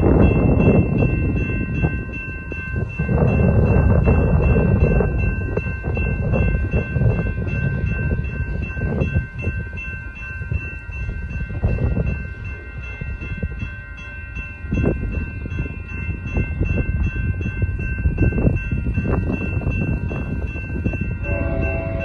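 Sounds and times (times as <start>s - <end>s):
crossing warning bell ringing: 0.0s - 22.0s
wind rumble on microphone: 0.0s - 22.0s.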